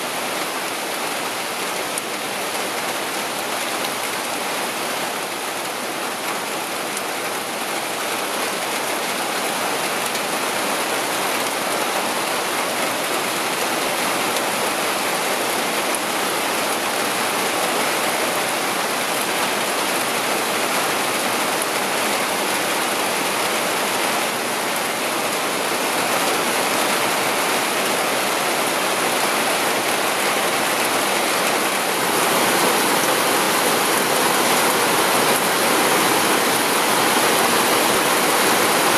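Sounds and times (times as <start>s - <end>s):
heavy rain on forest canopy: 0.0s - 38.9s.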